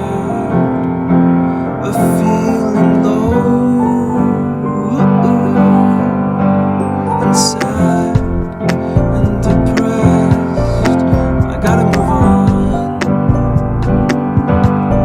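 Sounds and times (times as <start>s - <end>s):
pop instrumental music with piano: 0.0s - 15.0s.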